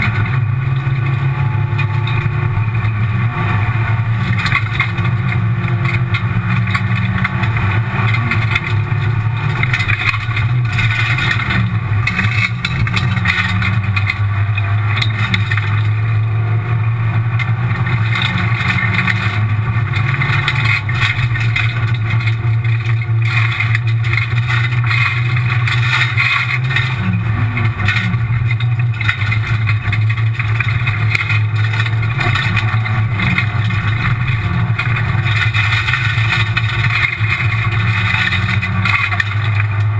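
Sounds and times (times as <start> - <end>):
car engine running hard: 0.0 - 39.9
gravel and tyre noise: 0.0 - 39.9.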